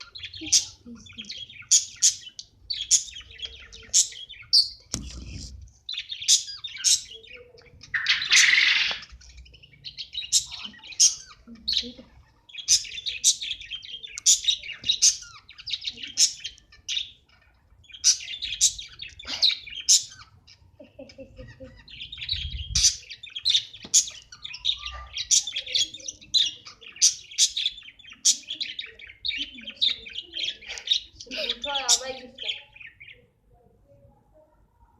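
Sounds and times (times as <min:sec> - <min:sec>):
budgerigars chirping: 0:00.0 - 0:33.2.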